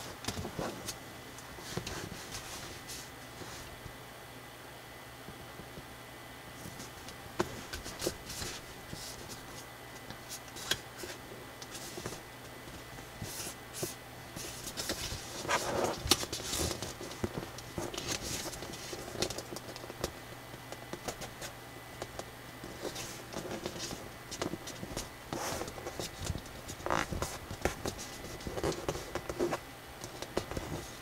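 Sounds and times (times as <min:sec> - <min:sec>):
paper rustling and crinkling: 0:00.0 - 0:03.8, 0:06.6 - 0:20.2, 0:22.1 - 0:31.0.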